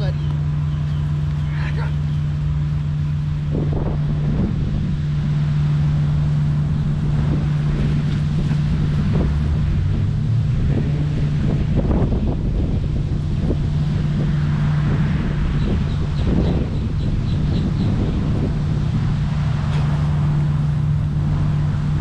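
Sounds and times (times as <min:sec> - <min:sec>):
road traffic hum: 0:00.0 - 0:22.0
wind buffeting microphone: 0:00.0 - 0:22.0.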